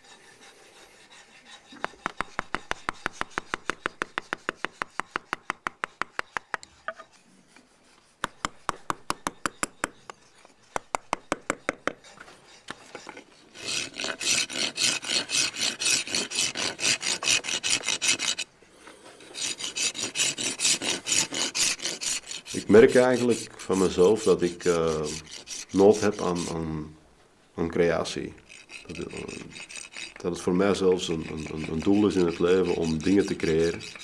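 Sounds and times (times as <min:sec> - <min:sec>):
hand rasp filing stone: 0:00.0 - 0:18.5, 0:19.1 - 0:26.7, 0:28.0 - 0:34.0.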